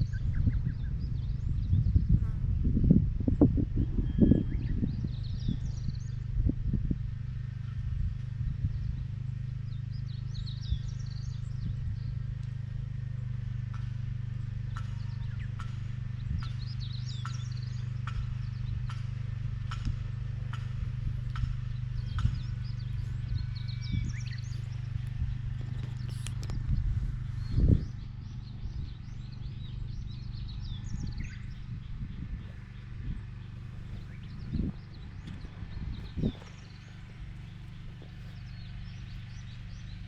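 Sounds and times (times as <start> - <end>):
small engine humming: 0.0 - 40.0
birds chirping: 3.7 - 40.0.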